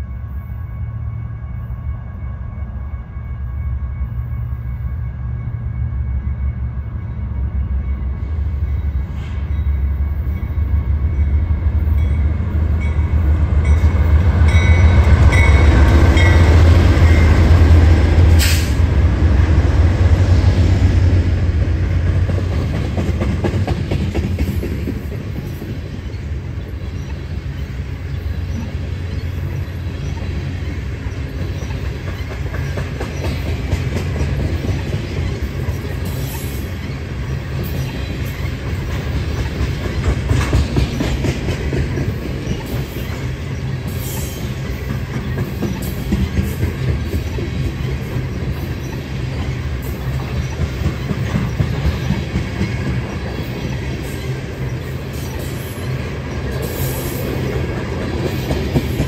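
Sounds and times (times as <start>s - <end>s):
locomotive engines rumbling: 0.0s - 59.0s
train wheels clicking over rails: 11.5s - 59.0s.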